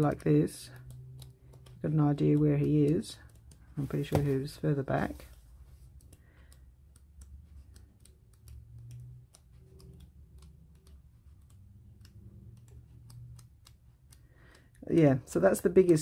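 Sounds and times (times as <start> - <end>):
pages flicked ticking: 0.0 - 16.0.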